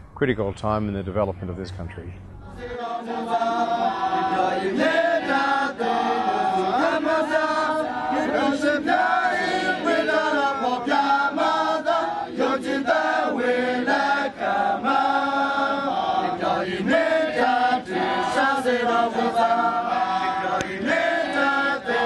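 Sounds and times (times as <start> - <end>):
choir singing chant-like phrases: 2.4 - 22.0.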